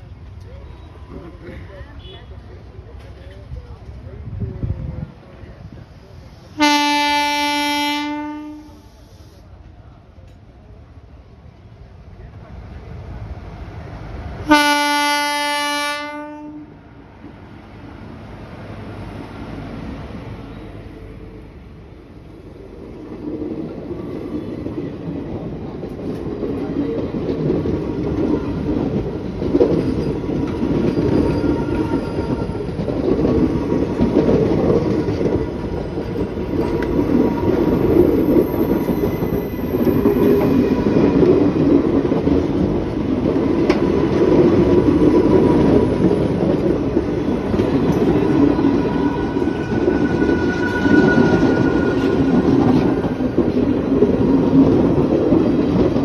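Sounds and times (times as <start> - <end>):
train running on track: 0.0 - 56.0.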